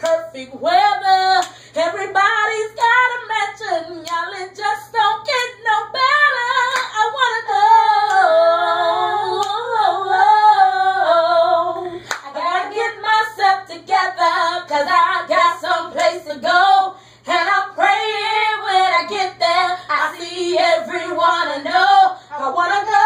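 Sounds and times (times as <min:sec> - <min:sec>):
woman singing gospel: 0:00.0 - 0:23.0.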